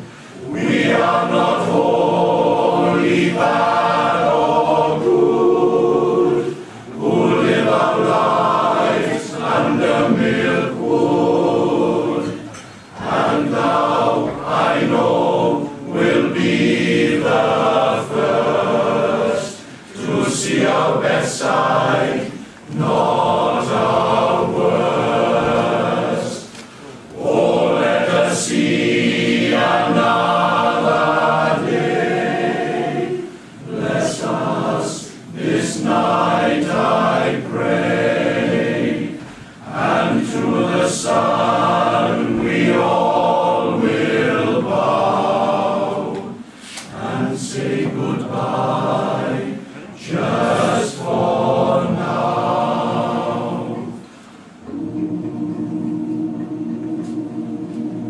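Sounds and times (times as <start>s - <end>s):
male choir singing: 0.0s - 58.0s.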